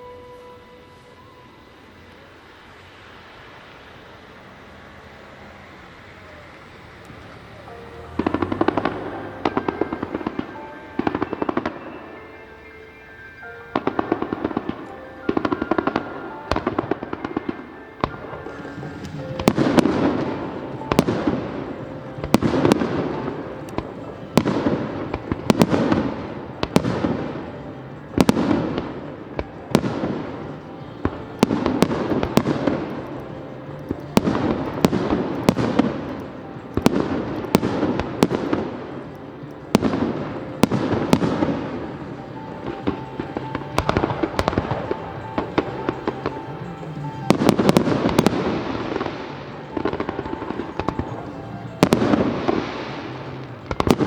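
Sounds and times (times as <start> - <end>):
music: 0.0 - 3.0, 7.2 - 54.0
fireworks bursting with crackling: 0.0 - 54.0.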